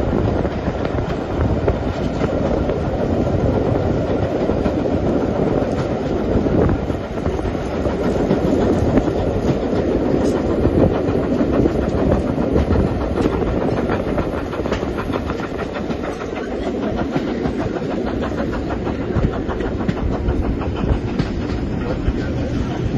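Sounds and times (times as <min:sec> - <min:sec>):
clacks over rail joints: 0:00.0 - 0:22.9
train wheels rumbling on rails: 0:00.0 - 0:22.9.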